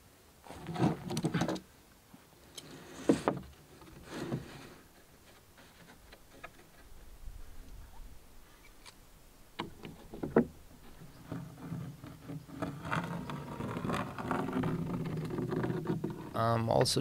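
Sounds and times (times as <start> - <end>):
timber clattering and scraping: 0.5 - 1.6, 2.5 - 7.9, 9.6 - 17.0.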